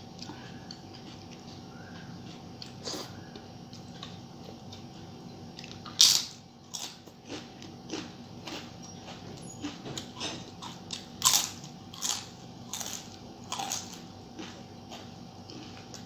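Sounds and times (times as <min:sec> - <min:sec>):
person chewing crunchy food: 0:00.1 - 0:16.0.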